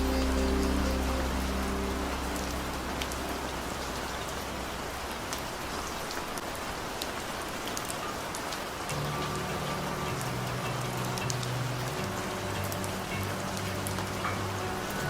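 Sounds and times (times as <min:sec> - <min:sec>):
raindrops clicking: 0:00.0 - 0:15.0
steady rain falling: 0:00.0 - 0:15.0.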